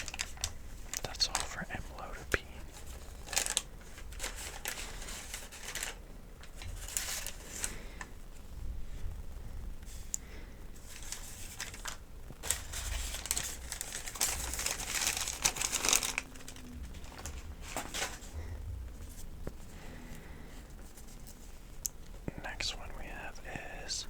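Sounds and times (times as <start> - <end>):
paper crinkling and rustling: 0.0 - 8.2, 10.8 - 22.1.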